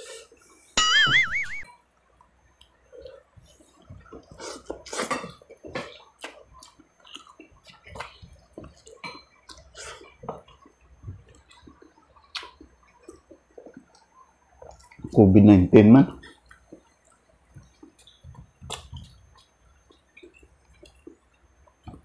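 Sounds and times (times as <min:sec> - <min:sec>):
man chewing and lip-smacking: 0:02.6 - 0:15.2, 0:16.2 - 0:22.0.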